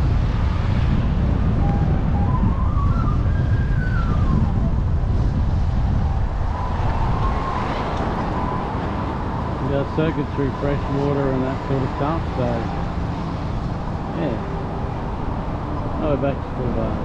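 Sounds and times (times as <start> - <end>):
wind rumbling on microphone: 0.0 - 17.0
rising and falling tone: 0.9 - 17.0.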